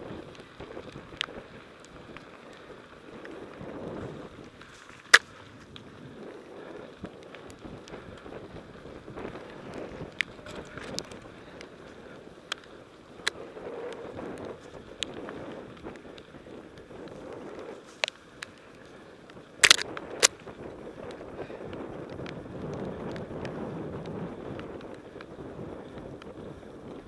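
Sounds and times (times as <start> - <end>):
bike clicks and rattles: 0.0 - 27.0
bike tyres on gravel: 0.0 - 27.0
wind noise: 0.0 - 27.0.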